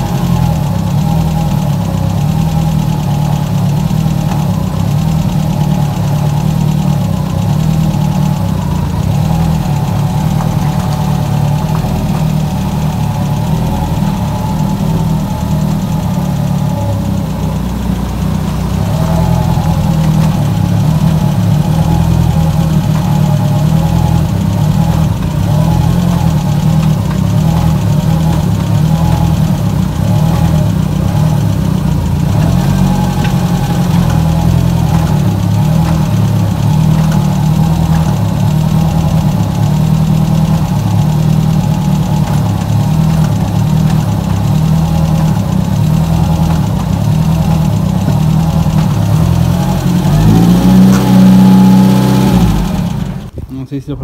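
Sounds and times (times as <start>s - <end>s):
car engine idling: 0.0s - 54.0s
heat shield juddering: 0.1s - 54.0s.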